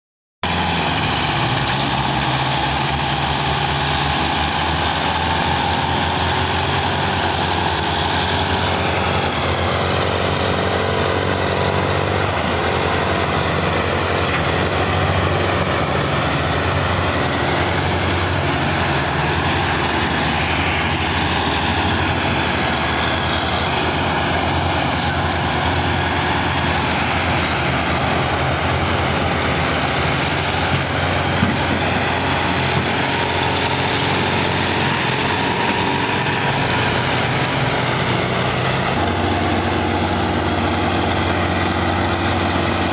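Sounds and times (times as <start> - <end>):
tractor diesel engines under load: 0.4 - 42.9.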